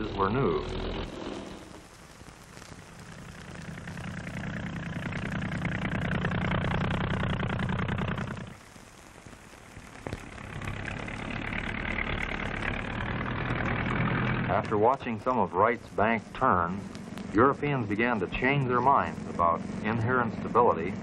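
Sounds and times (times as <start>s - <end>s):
propeller aircraft engine flying past: 0.0s - 1.8s, 3.1s - 8.6s, 10.2s - 21.0s.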